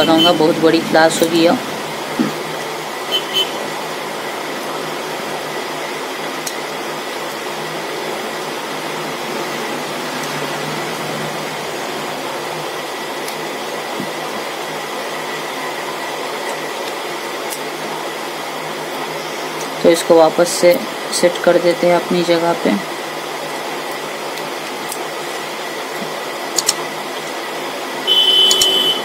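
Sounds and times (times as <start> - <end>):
fan-like hum and hiss: 0.0 - 29.0.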